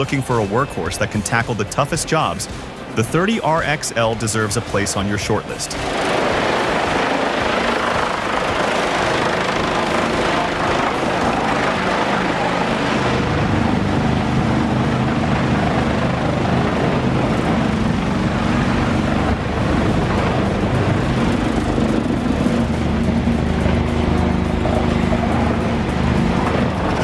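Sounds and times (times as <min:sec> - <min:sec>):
heavy machine engine drone: 0:00.0 - 0:27.0.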